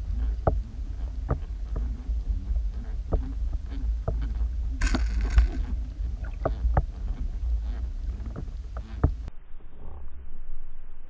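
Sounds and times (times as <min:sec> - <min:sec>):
underwater rumble of moving water: 0:00.0 - 0:10.0.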